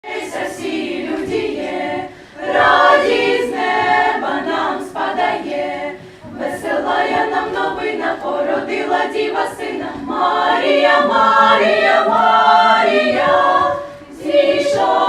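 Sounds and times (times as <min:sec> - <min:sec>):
choir singing unaccompanied: 0:00.0 - 0:15.0.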